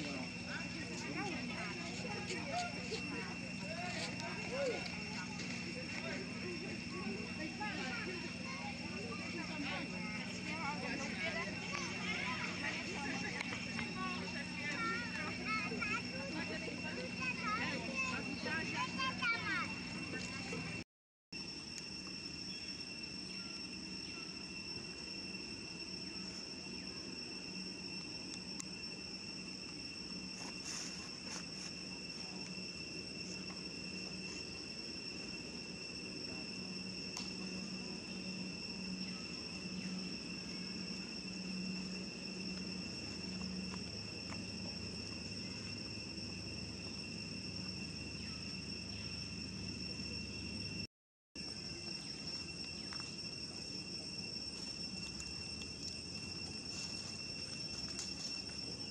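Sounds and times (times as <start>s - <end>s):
high-pitched insect drone: 0.0s - 20.8s, 21.4s - 58.9s.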